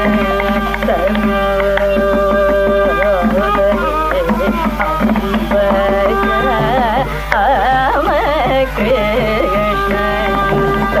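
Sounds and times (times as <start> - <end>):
hand drum strokes: 0.0 - 11.0
steady drone: 0.0 - 11.0
violin accompaniment: 0.0 - 11.0
woman singing: 0.0 - 11.0.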